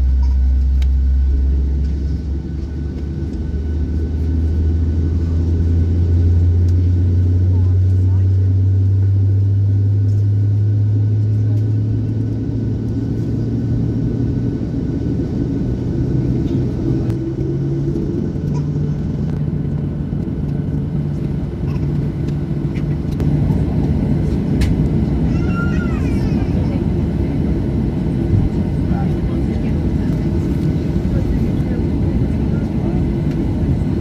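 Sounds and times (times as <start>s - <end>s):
aircraft cabin engine rumble: 0.0s - 34.0s.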